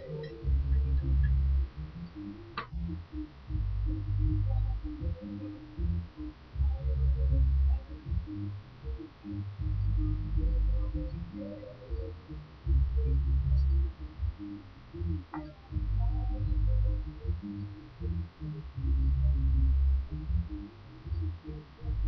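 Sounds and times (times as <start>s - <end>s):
background music with deep bass notes: 0.0s - 22.0s.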